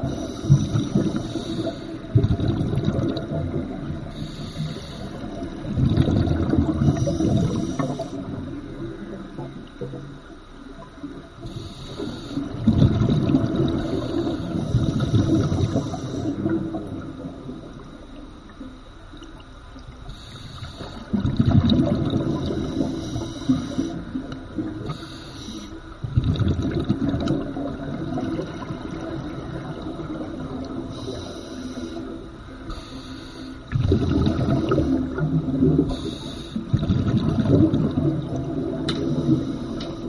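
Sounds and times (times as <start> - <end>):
soft hissing: 0.0 - 2.2, 3.2 - 12.7, 13.5 - 21.2, 22.2 - 26.0, 27.5 - 36.8, 38.3 - 40.0
underwater bubbles gurgling: 0.0 - 40.0.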